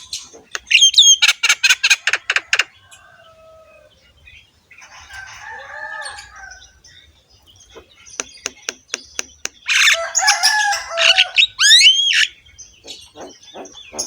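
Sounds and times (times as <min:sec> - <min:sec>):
myna bird singing harshly: 0:00.0 - 0:14.0.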